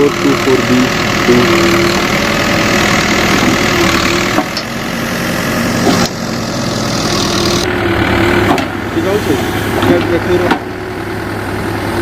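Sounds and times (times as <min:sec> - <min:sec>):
backhoe diesel engine running: 0:00.0 - 0:12.0.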